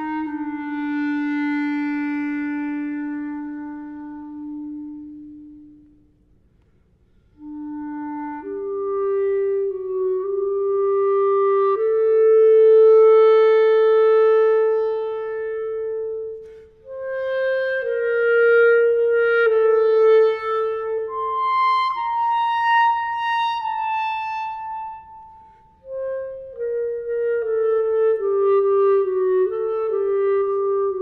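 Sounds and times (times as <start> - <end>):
clarinet playing slow notes: 0.0 - 31.0.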